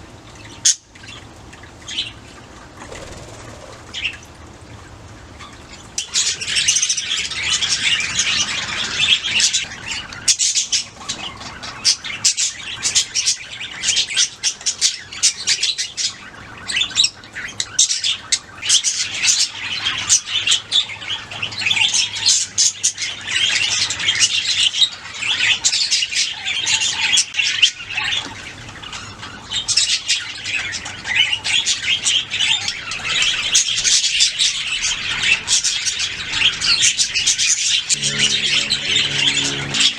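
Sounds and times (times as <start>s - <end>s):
budgerigars chirping and warbling: 5.4s - 39.9s.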